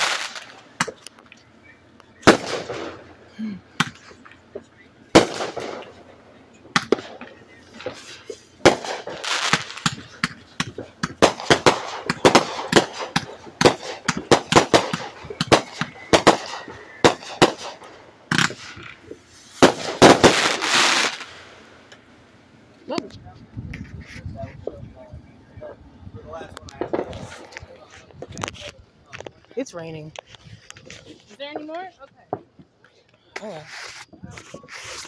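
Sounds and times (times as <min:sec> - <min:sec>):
fireworks pops and bangs: 0:00.0 - 0:03.1, 0:03.8 - 0:22.1, 0:26.4 - 0:35.0
fireworks crackling: 0:00.0 - 0:25.4, 0:26.2 - 0:35.0.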